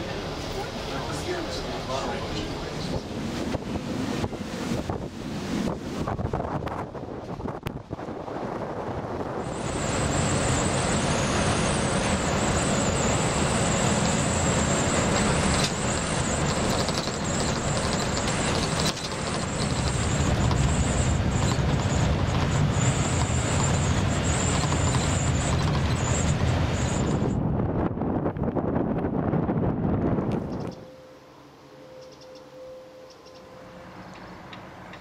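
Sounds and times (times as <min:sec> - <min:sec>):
bus engine and road noise: 0:00.0 - 0:32.2, 0:33.1 - 0:35.0.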